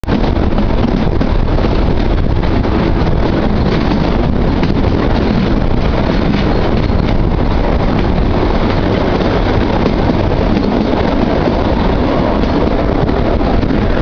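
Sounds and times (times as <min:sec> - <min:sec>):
train rumbling: 0:00.0 - 0:14.0
wind buffeting microphone: 0:00.0 - 0:14.0.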